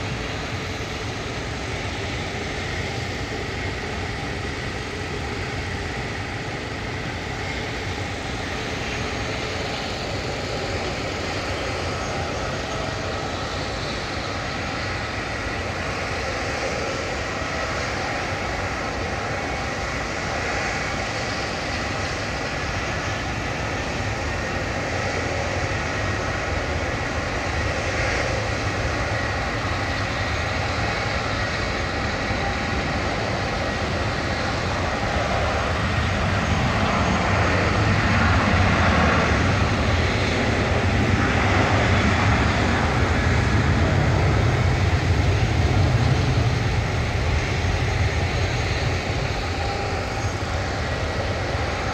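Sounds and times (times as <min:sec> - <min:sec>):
jet engines running: 0:00.0 - 0:51.9.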